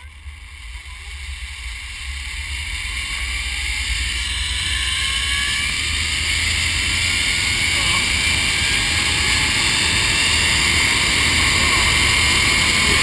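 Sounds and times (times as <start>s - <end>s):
zipline pulley whirring: 0.0s - 13.0s.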